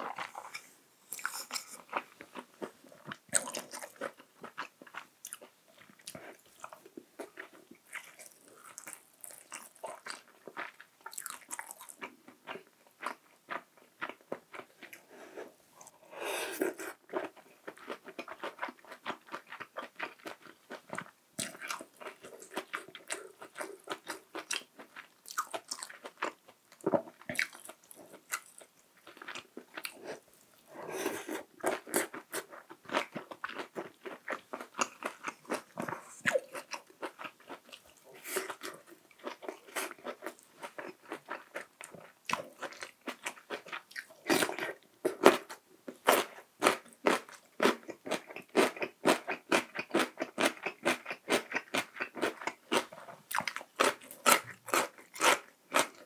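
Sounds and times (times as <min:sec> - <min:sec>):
wet chewing and crunching: 0:00.0 - 0:15.0, 0:16.6 - 0:30.2, 0:31.2 - 0:56.0.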